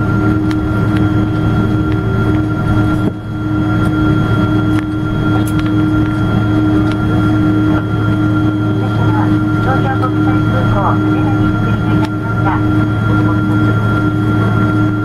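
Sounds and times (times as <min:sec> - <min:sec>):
jet cabin engine drone: 0:00.0 - 0:15.0.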